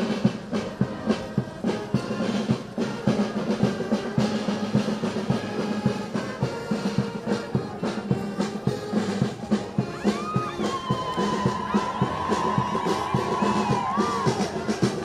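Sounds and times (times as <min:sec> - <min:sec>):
band playing a march: 0:00.0 - 0:15.0
steady drum beat: 0:00.0 - 0:15.0.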